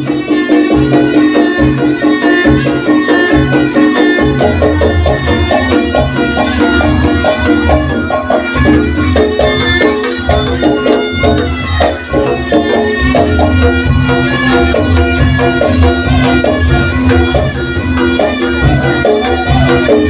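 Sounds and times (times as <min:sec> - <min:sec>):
hand drum rhythm: 0:00.0 - 0:20.0
higher melody: 0:00.0 - 0:20.0.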